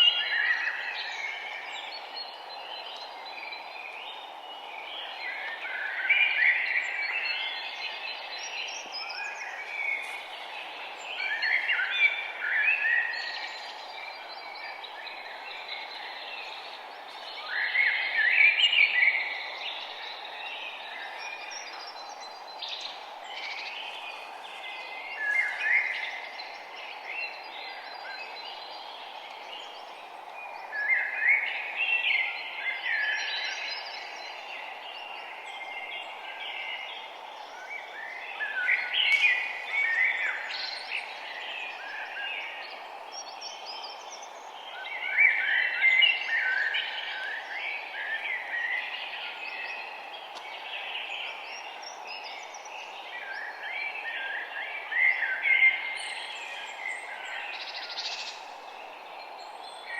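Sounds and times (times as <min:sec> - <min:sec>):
songbirds chirping and singing: 0:00.0 - 0:59.9
steady background hiss: 0:00.0 - 0:59.9.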